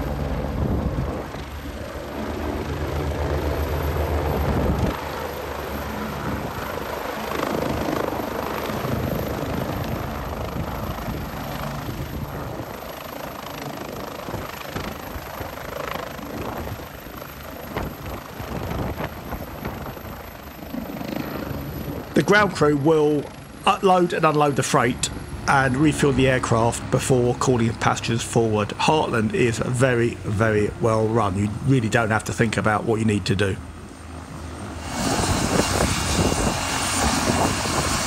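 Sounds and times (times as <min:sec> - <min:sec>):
helicopter rotor and turbines: 0:00.0 - 0:38.0.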